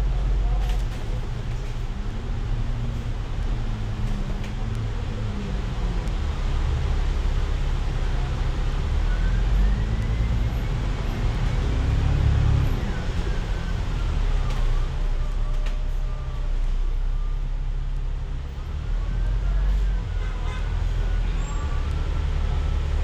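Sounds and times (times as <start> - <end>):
bus engine low rumble: 0.0 - 23.0.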